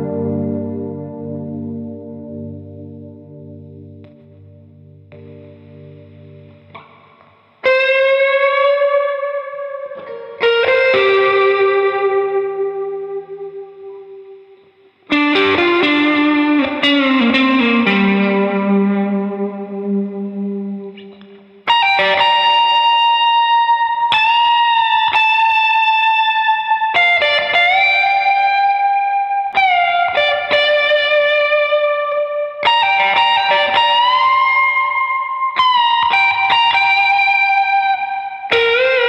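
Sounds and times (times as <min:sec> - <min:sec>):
electric guitar lead line: 0:00.0 - 0:39.0.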